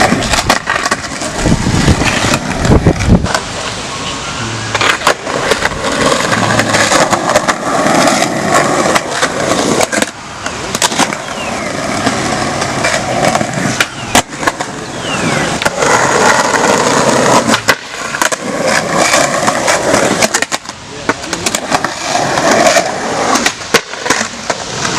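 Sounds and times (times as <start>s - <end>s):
skateboard clacks and knocks: 0.0s - 3.7s, 4.7s - 14.8s, 15.5s - 24.9s
skateboard wheels rolling on concrete: 0.0s - 24.9s.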